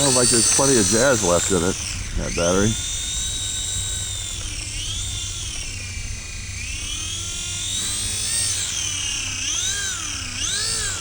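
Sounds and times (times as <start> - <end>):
model airplane motor whining: 0.0 - 11.0
steady low hum: 0.0 - 11.0.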